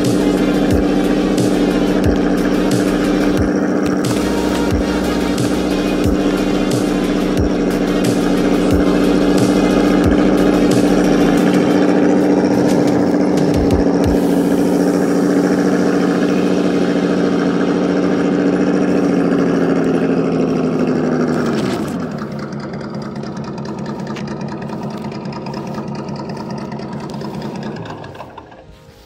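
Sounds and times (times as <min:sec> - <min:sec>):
electric motor and drivetrain whining: 0:00.0 - 0:29.0.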